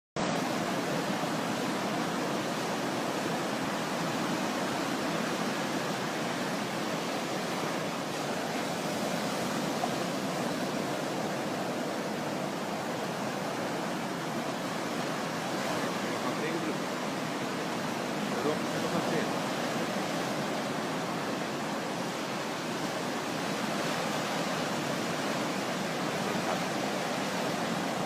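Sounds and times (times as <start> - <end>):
sea surf: 0.2 - 28.0.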